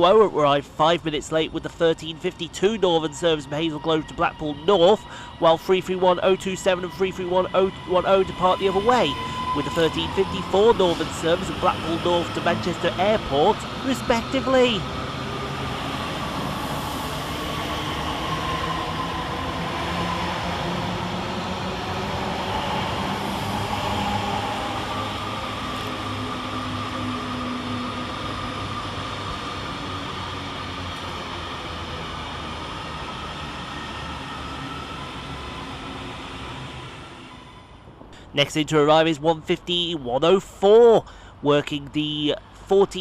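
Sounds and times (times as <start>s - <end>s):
train rumble: 0.0s - 38.8s
electric traction motor whine: 2.3s - 38.0s.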